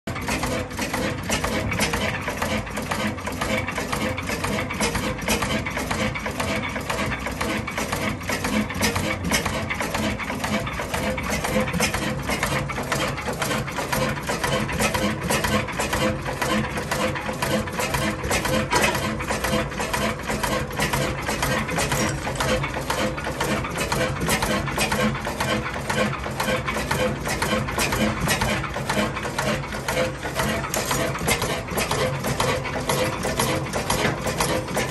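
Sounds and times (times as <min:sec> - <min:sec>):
stationary engine clattering: 0:00.1 - 0:34.9.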